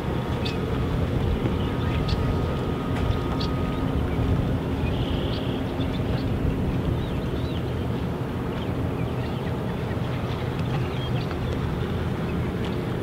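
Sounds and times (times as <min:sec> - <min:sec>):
boat engines rumbling: 0:00.0 - 0:13.0
wind buffeting microphone: 0:00.0 - 0:13.0.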